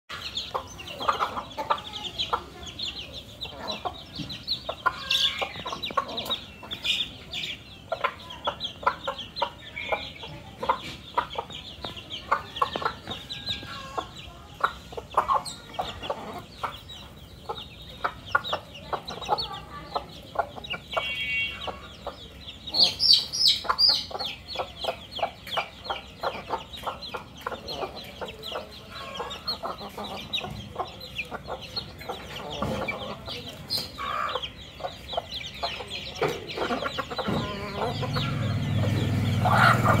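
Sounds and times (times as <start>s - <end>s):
hens clucking: 0.1s - 40.0s.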